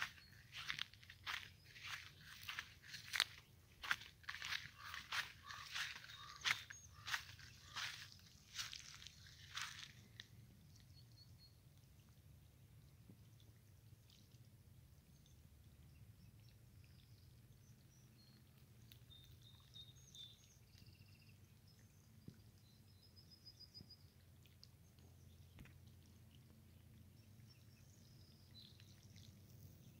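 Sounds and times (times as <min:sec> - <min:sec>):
faint songbirds chirping: 0:00.0 - 0:30.0.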